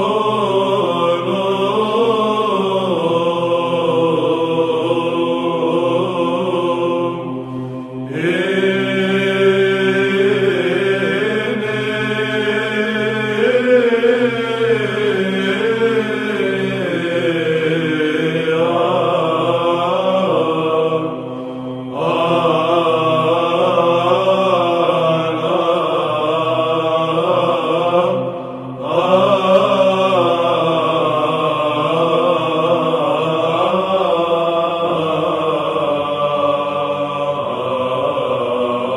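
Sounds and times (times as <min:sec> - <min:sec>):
choir chanting over drone: 0:00.0 - 0:38.9.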